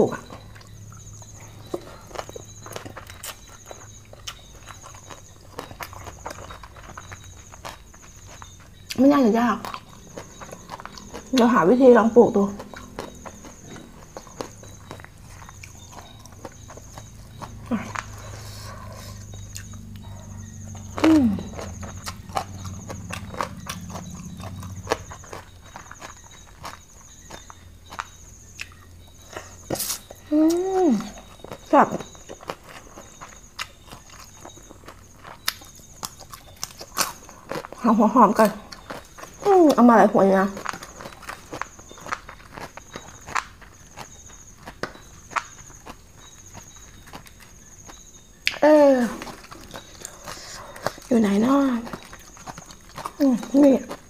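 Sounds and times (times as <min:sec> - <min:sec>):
insect trilling: 0:00.0 - 0:54.0
wet chewing and lip smacks: 0:00.2 - 0:09.0, 0:09.6 - 0:11.6, 0:12.3 - 0:39.8, 0:40.4 - 0:54.0.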